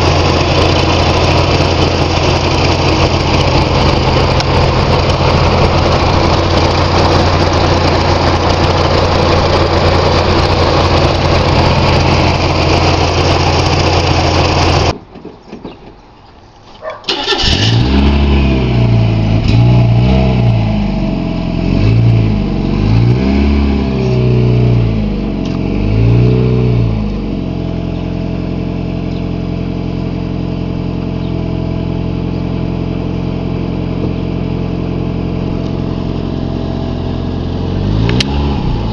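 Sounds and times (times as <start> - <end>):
car engine idling and revving: 0.0 - 15.0, 17.1 - 38.9.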